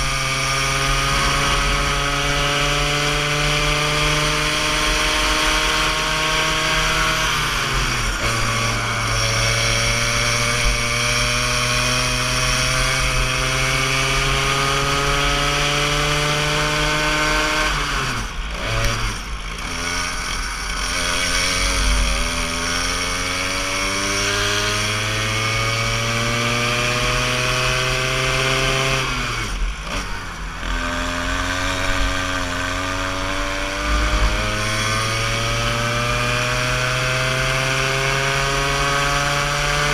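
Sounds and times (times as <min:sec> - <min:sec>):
go-kart engine at full throttle: 0:00.0 - 0:39.9.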